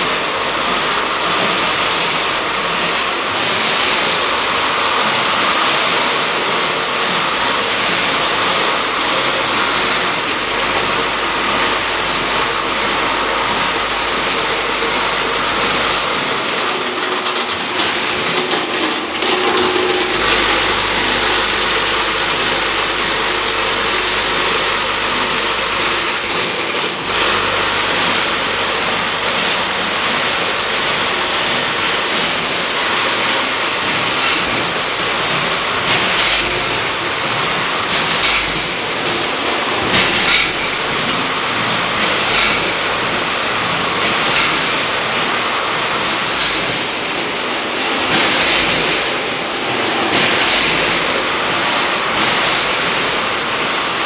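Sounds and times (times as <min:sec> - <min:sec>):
bagging machine running: 0:00.0 - 0:54.0
machine clatters: 0:00.0 - 0:54.0.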